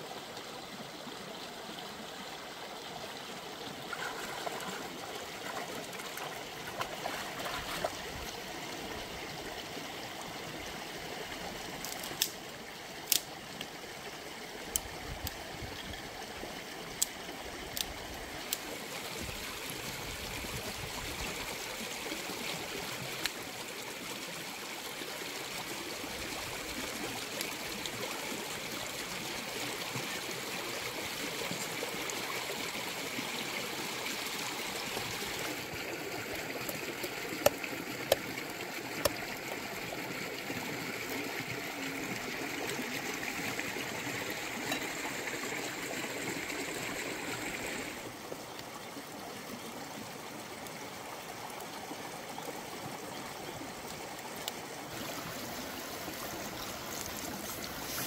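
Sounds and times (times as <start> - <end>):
stream trickling over rocks: 0.0 - 58.0.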